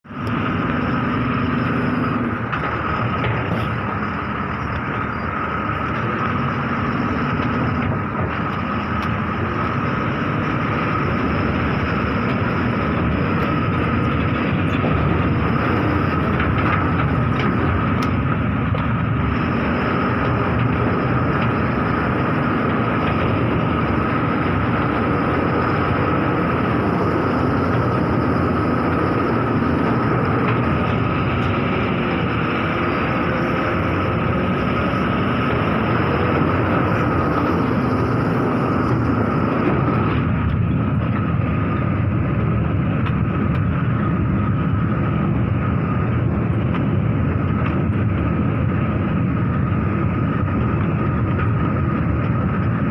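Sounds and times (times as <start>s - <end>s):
heavy diesel machinery rumbling: 0.0s - 52.9s
high mechanical whine: 0.0s - 52.9s.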